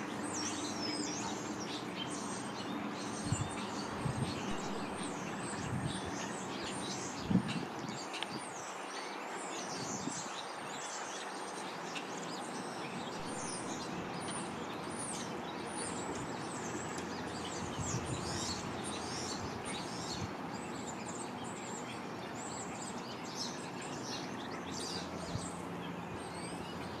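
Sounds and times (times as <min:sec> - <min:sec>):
small songbirds chirping: 0:00.0 - 0:27.0
steady background noise: 0:00.0 - 0:27.0.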